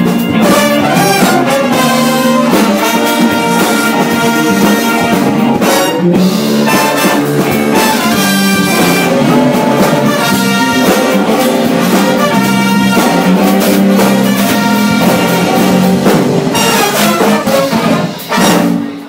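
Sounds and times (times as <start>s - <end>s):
big band jazz: 0.0s - 19.0s
brass section chords: 0.0s - 19.0s
saxophones: 0.1s - 19.0s.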